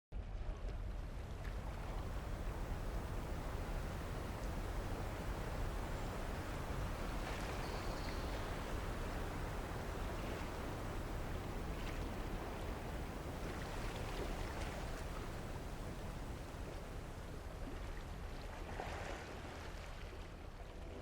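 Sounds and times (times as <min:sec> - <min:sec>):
wind noise: 0:00.5 - 0:19.6
rushing water: 0:00.7 - 0:21.0.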